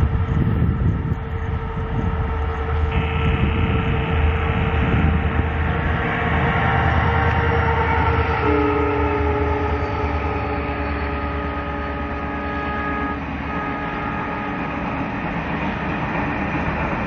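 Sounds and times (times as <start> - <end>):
diesel locomotive engine rumble: 0.0 - 17.0
high-pitched engine tones: 1.8 - 17.0.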